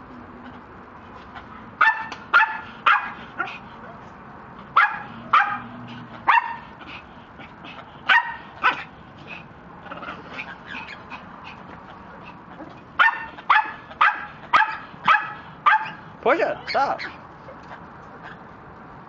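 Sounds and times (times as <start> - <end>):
small dog yapping: 1.4 - 4.0, 4.7 - 6.9, 7.6 - 18.4.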